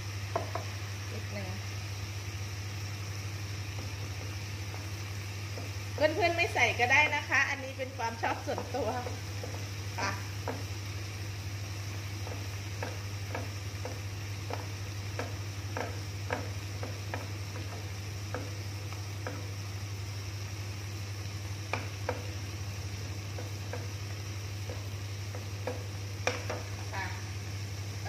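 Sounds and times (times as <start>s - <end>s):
food sizzling in a frying pan: 0.0s - 28.0s.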